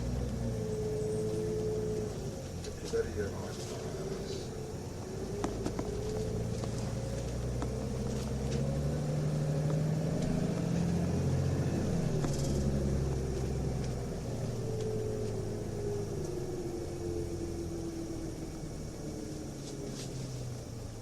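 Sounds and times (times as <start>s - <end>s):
bus diesel engine accelerating: 0.0s - 21.0s.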